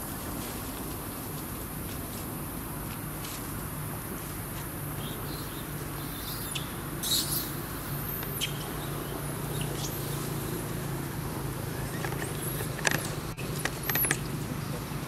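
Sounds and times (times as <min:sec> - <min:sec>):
steady outdoor hum: 0:00.0 - 0:15.0.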